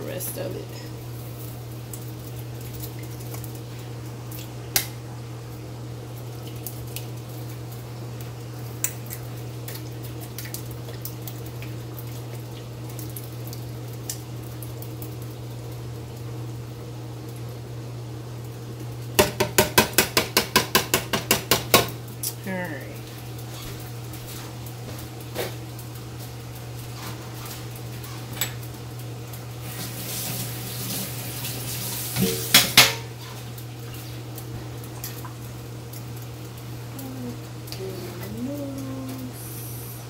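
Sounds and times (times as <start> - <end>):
low kitchen hum: 0.0 - 40.0.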